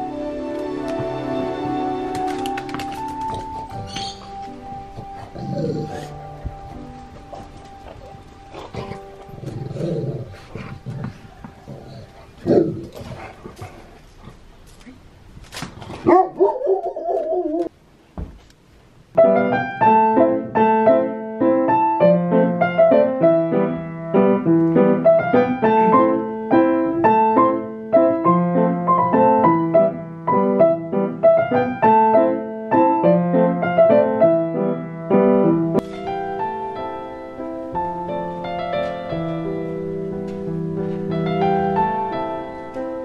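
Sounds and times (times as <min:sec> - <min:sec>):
piano music: 0:00.0 - 0:13.0, 0:19.1 - 0:43.0.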